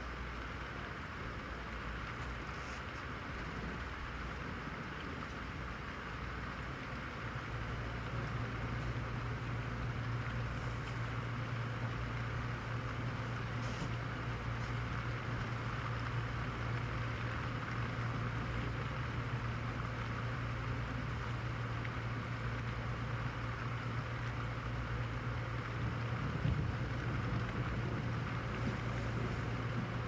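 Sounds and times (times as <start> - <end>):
constant low hum: 0.0 - 30.0
steady rainfall: 3.0 - 30.0.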